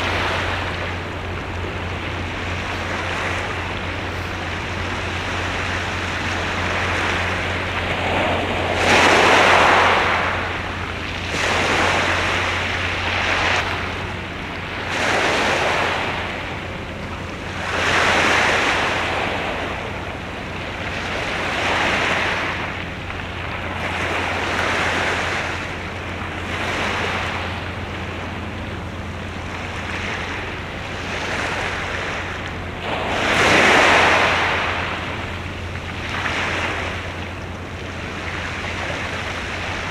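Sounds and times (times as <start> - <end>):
steady low hum: 0.0 - 39.9
waves washing in: 0.0 - 39.9.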